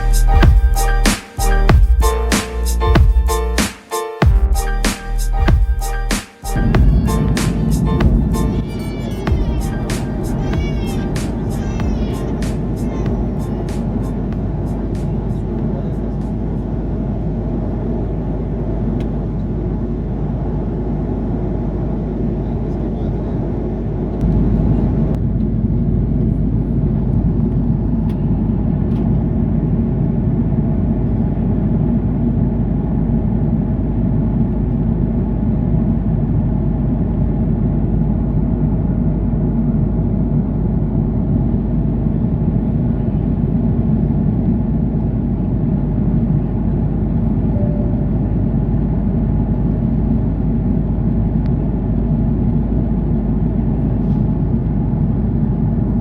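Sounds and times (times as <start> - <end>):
airliner cabin engine rumble: 4.4 - 56.0.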